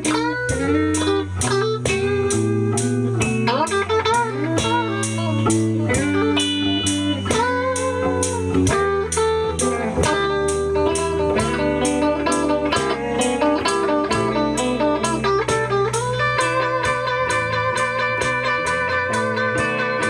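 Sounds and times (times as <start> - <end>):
electric blues guitar lead: 0.0 - 20.0
low bass line: 0.0 - 20.0
steady beat: 0.0 - 20.0.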